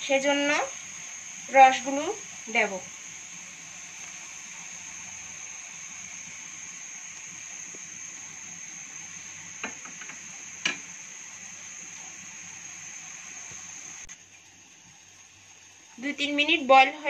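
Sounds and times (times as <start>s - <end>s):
pot hissing on stove: 0.0s - 17.0s.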